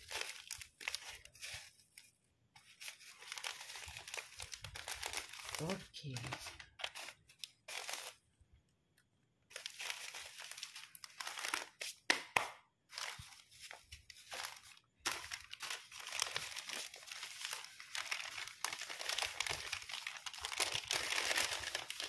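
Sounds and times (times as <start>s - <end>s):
plastic wrapping crinkling: 0.0s - 8.2s, 9.5s - 12.1s, 12.9s - 22.0s.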